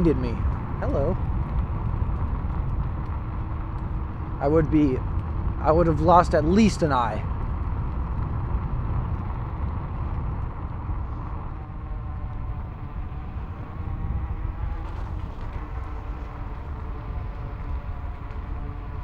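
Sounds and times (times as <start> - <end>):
faint electric motor hum: 0.0 - 19.0
wind rumble on microphone: 0.0 - 19.0.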